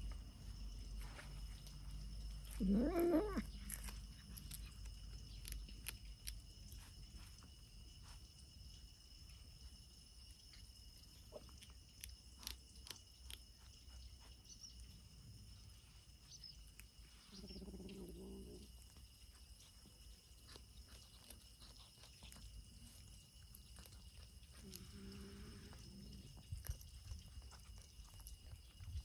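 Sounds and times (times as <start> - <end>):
kittens chewing: 0.0 - 29.0.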